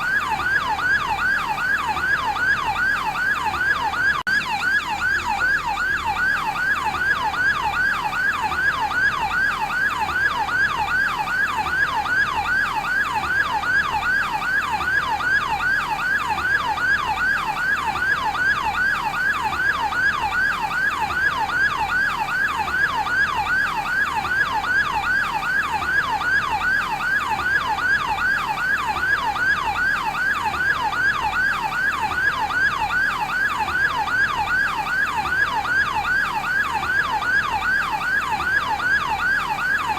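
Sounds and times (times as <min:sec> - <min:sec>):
ambulance siren yelping: 0:00.0 - 0:39.9.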